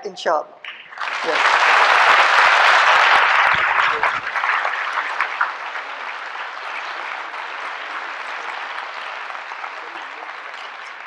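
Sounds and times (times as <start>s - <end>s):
large audience applauding: 0.7s - 11.0s.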